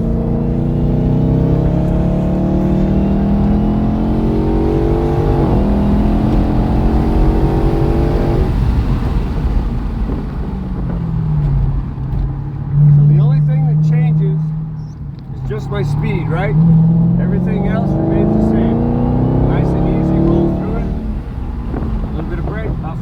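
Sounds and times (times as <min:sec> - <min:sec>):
car engine at full throttle: 0:00.0 - 0:23.0
road and tyre noise: 0:00.0 - 0:23.0.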